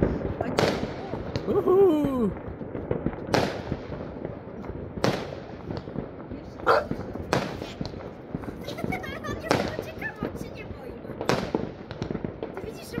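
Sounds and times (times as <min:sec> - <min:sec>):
distant fireworks bangs: 0:00.0 - 0:13.0
fireworks pops and crackles: 0:00.0 - 0:13.0.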